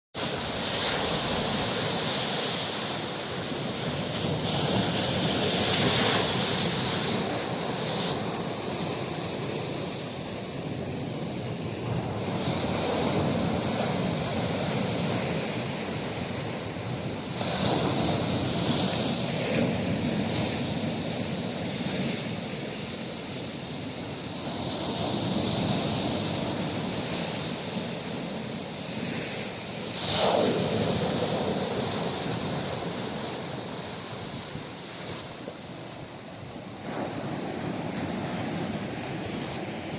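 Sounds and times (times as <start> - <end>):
waves washing on shore: 0.2 - 39.9
wind on microphone: 0.2 - 39.9.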